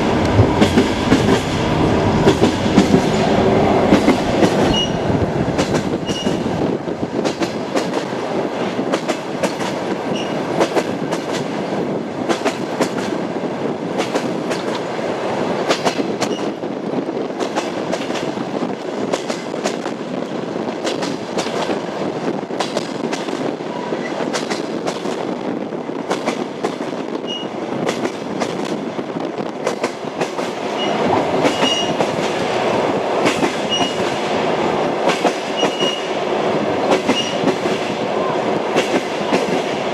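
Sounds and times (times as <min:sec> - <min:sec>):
rail joint clickety-clack: 0:00.0 - 0:39.9
train wheels rumbling on rails: 0:00.0 - 0:39.9.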